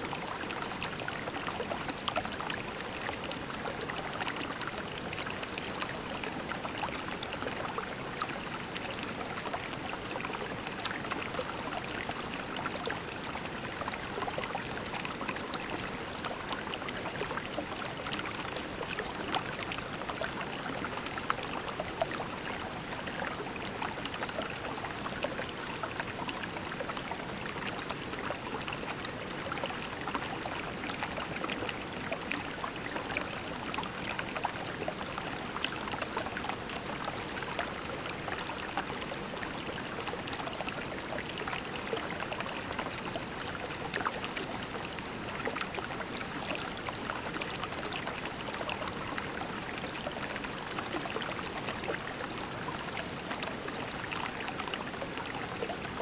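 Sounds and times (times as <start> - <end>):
creek water babbling over pebbles: 0.0 - 56.0.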